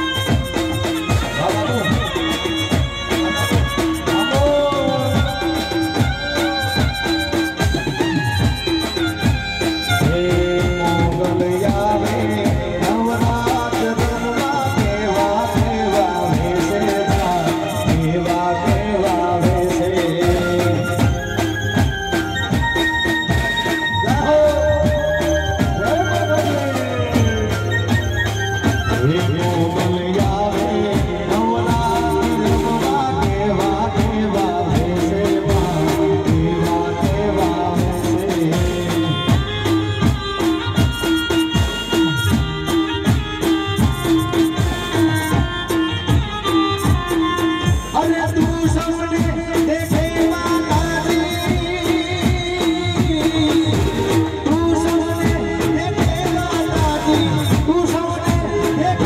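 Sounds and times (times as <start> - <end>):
electronic keyboard melody: 0.0 - 49.0
person singing: 0.0 - 59.0
steady drum beat: 0.0 - 59.0.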